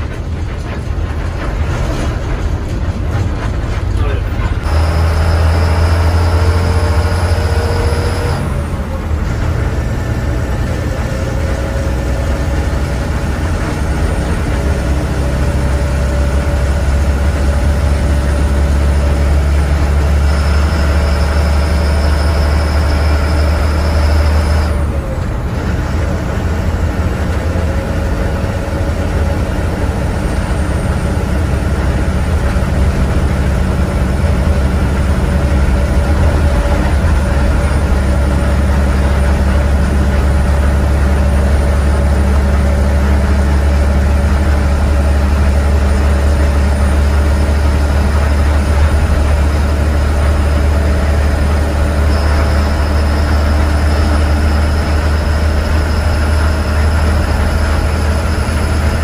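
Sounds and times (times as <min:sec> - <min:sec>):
bus engine hum with rising whine: 0:00.0 - 0:59.0.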